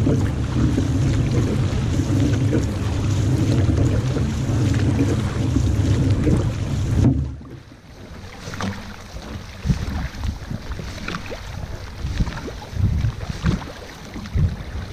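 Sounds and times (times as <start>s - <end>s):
paddles splashing in water: 0.0s - 14.9s.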